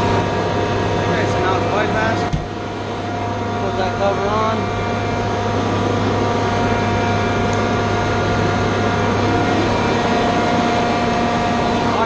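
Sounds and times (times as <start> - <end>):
machinery humming and whining: 0.0 - 12.0.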